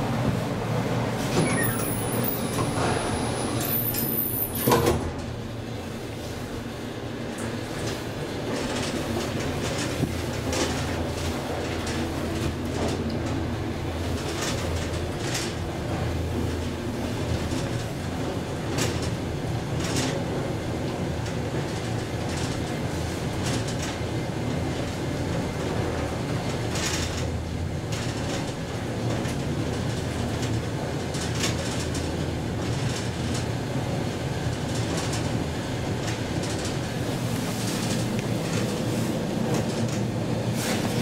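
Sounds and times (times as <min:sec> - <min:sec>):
inclined elevator running: 0:00.0 - 0:41.0.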